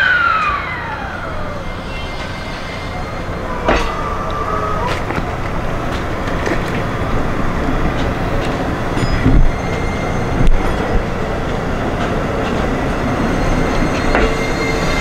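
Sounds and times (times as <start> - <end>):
train running gear rumbling: 0.0 - 15.0
wheel and rail clicks: 2.9 - 15.0.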